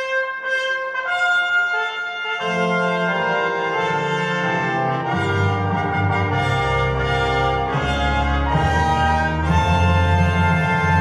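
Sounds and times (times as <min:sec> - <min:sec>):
brass ensemble playing chords: 0:00.0 - 0:11.0.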